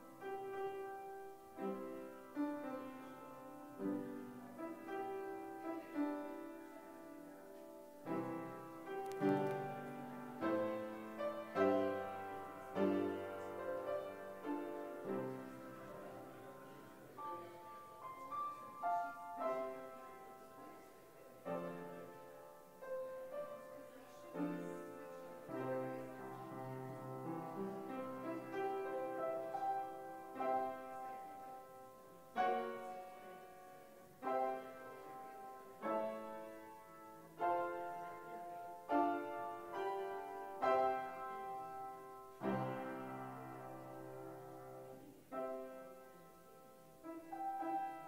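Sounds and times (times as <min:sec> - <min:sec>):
slow solo piano piece: 0:00.0 - 0:48.0.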